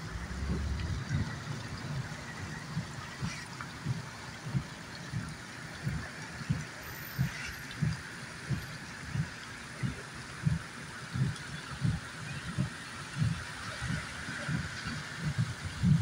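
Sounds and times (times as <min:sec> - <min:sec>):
rain and running floodwater hiss: 0:00.0 - 0:16.0.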